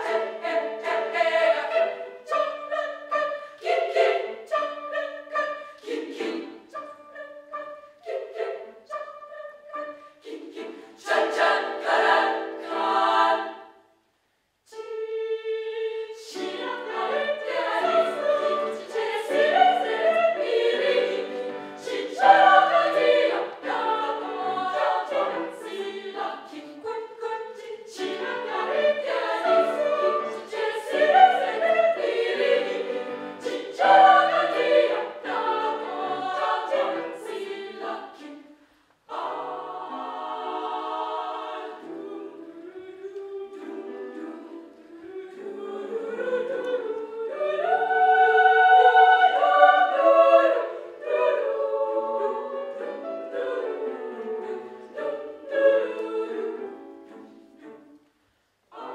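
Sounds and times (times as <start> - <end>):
children's choir singing: 0.0 - 13.9, 14.7 - 58.9.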